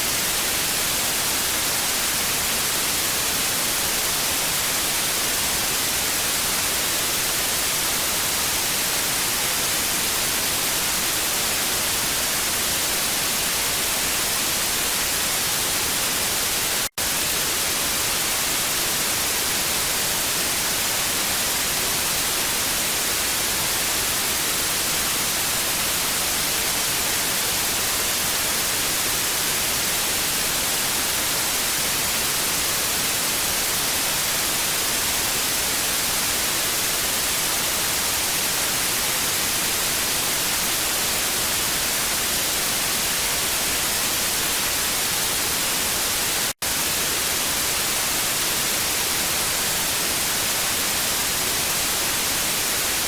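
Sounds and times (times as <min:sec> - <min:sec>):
tv static hiss: 0:00.0 - 0:53.0.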